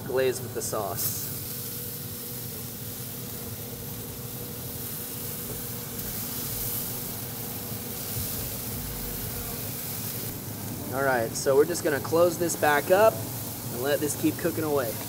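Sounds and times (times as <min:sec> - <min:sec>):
low even hum: 0:00.0 - 0:15.0
pellet grill hissing: 0:00.0 - 0:15.0.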